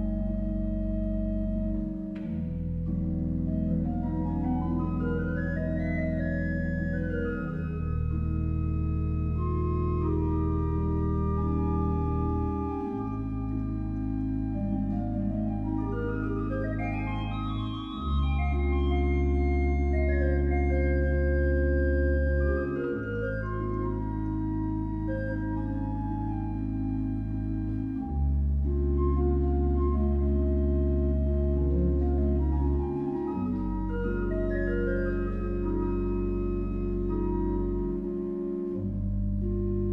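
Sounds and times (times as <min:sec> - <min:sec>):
organ playing chords: 0:00.0 - 0:39.9.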